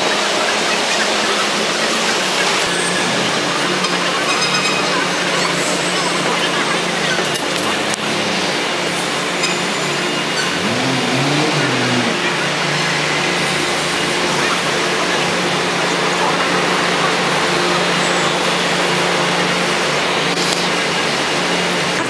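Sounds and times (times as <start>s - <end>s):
construction and street noise: 0.0s - 22.0s
diesel engine running: 1.1s - 22.0s.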